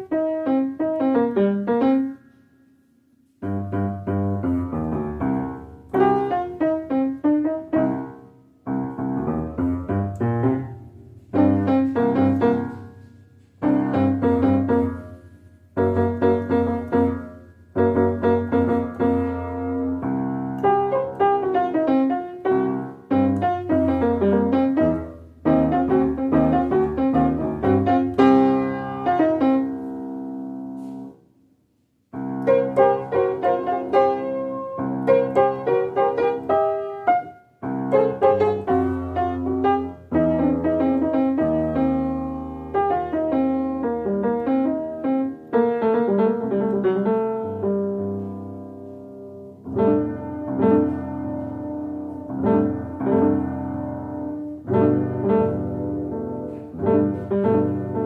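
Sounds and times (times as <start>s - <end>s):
piano music: 0.0s - 31.3s, 32.0s - 58.0s.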